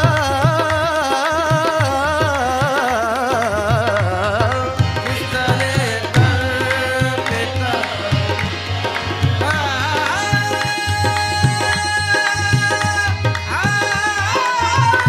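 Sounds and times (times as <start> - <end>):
tabla beat: 0.0 - 15.0.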